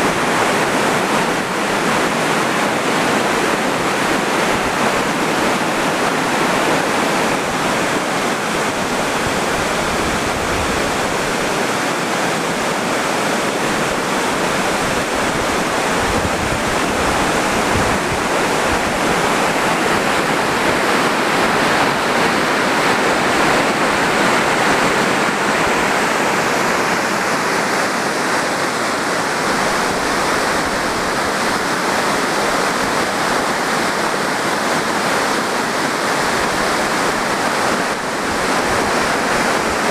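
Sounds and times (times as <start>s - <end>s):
wind buffeting microphone: 0.0s - 34.9s
river water pouring over dam: 0.0s - 39.9s.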